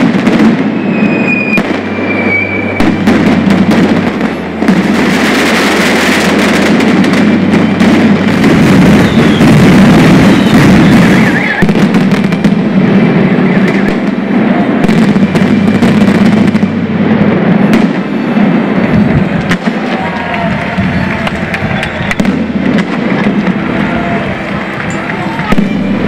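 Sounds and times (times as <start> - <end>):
firecracker barrage: 0.0 - 26.0.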